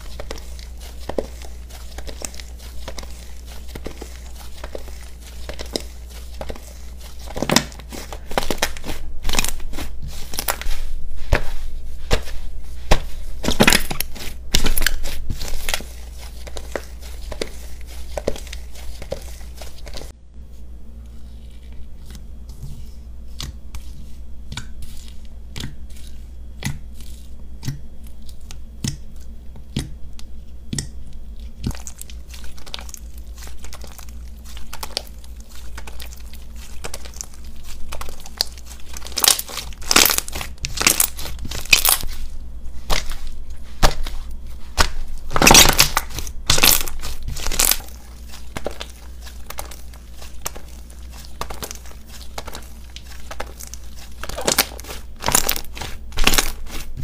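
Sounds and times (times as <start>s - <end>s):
slime crackling and squelching: 0.0s - 20.1s, 30.7s - 57.0s.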